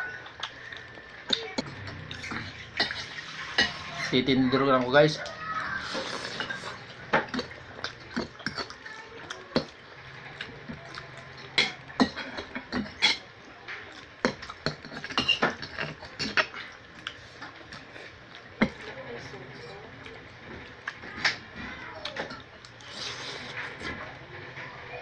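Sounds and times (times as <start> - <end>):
slurping and chewing: 0.0 - 4.1, 5.3 - 18.8, 19.5 - 24.2.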